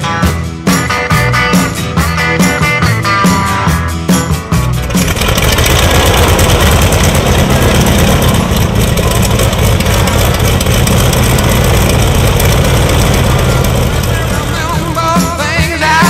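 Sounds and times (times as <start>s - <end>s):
music: 0.0s - 16.0s
biplane radial engine running: 0.9s - 16.0s.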